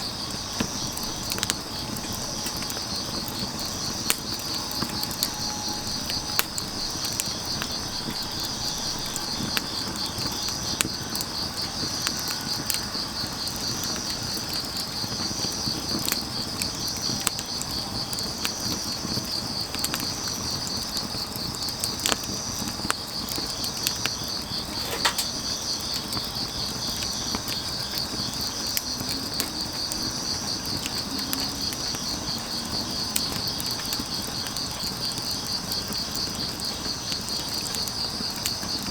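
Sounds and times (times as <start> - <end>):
firewood crackling: 0.0 - 38.9
insects chirping: 0.0 - 38.9.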